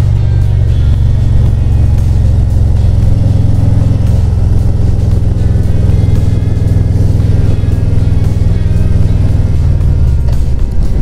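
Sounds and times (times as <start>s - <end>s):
motorcycle engine cruising: 0.0s - 11.0s
music playing: 0.0s - 11.0s.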